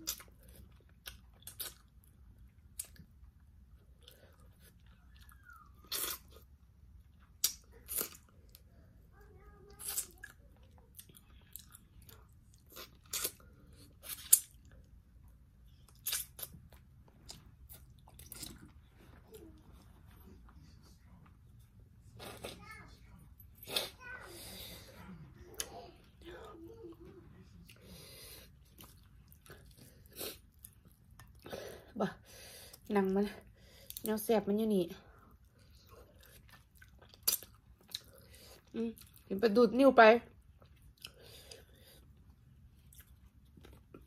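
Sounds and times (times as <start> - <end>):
chewing and crunching: 0.0 - 21.4, 23.6 - 31.5, 35.1 - 39.3, 40.3 - 44.0.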